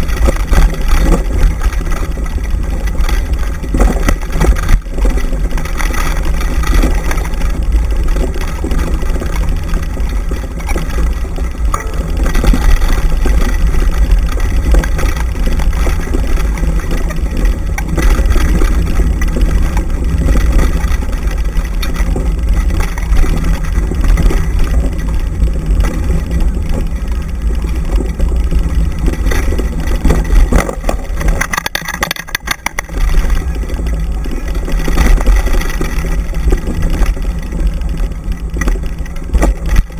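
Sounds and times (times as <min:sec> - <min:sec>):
knocks and rattles: 0:00.0 - 0:39.9
wheeled rig rolling on dirt trail: 0:00.0 - 0:39.9
wind rumble on microphone: 0:00.0 - 0:39.9.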